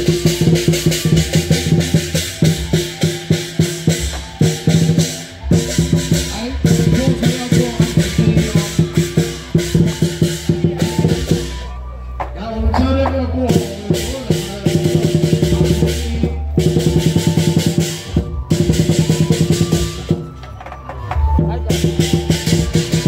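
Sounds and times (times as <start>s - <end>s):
loud music with fast percussion: 0.0s - 23.0s.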